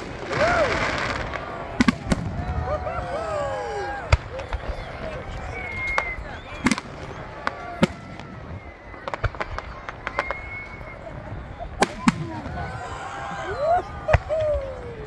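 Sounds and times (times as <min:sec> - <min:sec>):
fireworks bangs: 0:00.0 - 0:14.8
fireworks crackling: 0:00.0 - 0:14.8.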